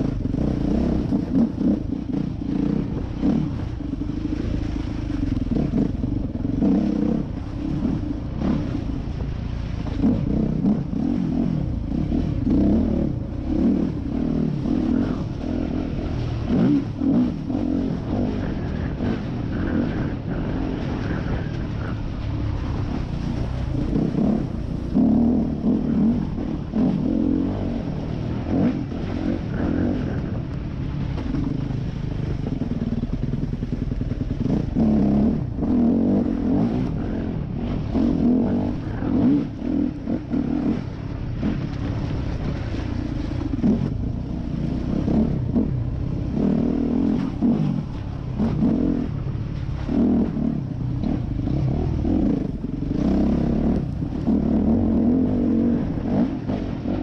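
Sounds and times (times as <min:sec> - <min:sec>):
dirt bike engine revving: 0:00.0 - 0:30.5, 0:32.2 - 0:57.0.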